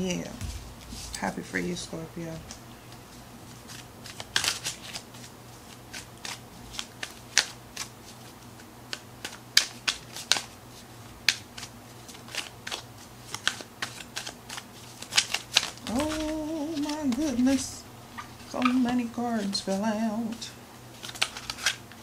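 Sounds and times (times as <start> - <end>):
cards being shuffled: 2.5 - 22.0.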